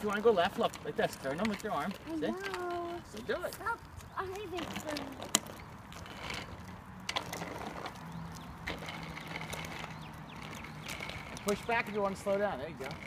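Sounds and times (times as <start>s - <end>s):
bicycle ticking and rattling: 0.0s - 13.0s
sharp bicycle clicks: 0.0s - 13.0s.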